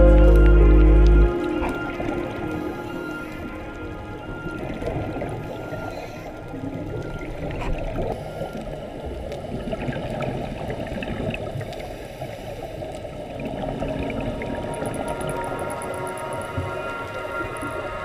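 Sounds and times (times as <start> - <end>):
muffled underwater noise: 0.0 - 18.0.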